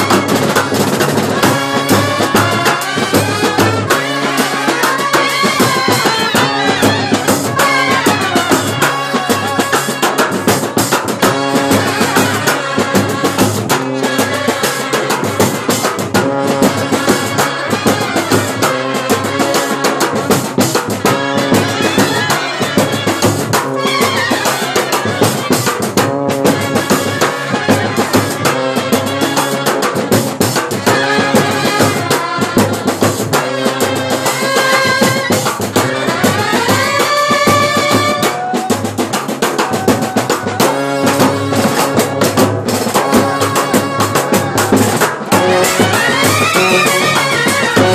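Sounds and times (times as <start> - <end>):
bass drums and side drums beating: 0.0 - 47.9
trumpets and clarinets playing tune: 0.0 - 47.9.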